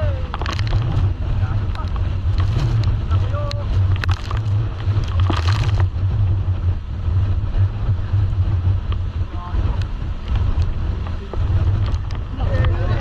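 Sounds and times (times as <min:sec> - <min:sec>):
motorboat rumble: 0:00.0 - 0:13.0
wind buffeting microphone: 0:00.0 - 0:13.0.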